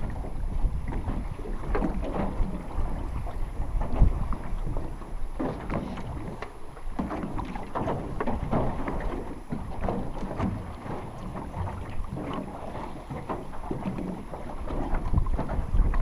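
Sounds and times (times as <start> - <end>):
waves lapping against boat: 0.0 - 16.0
wind rumble on microphone: 0.0 - 16.0.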